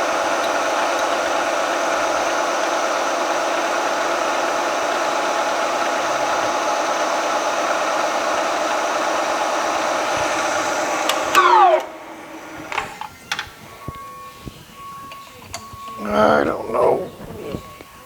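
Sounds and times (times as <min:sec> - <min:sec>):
milling machine spindle running: 0:00.0 - 0:18.0.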